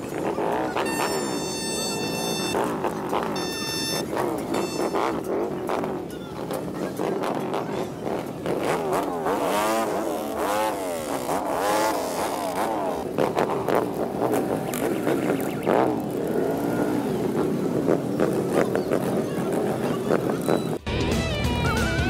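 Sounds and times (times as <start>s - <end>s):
motorcycles revving past: 0.0s - 20.8s.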